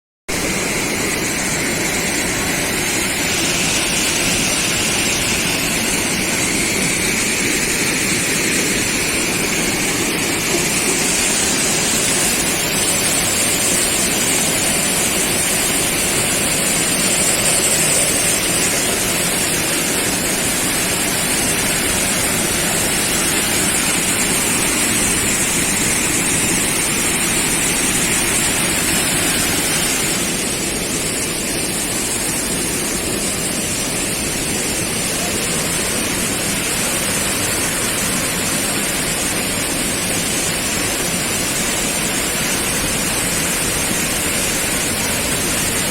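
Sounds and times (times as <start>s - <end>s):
falling water rushing: 0.3s - 45.9s.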